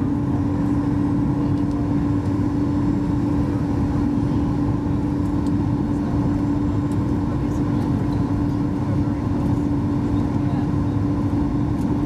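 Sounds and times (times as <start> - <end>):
aircraft cabin engine rumble: 0.0 - 12.0
constant hum: 0.0 - 12.0.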